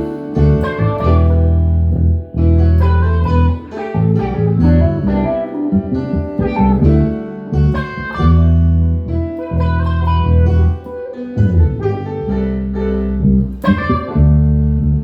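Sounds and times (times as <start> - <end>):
heavy low bass notes: 0.0 - 15.0
plucked guitar notes: 0.0 - 15.0.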